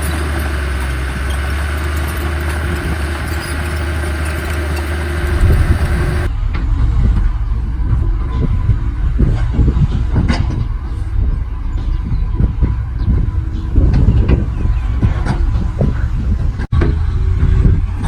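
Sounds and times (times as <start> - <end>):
heavy machinery engine humming: 0.0 - 18.0.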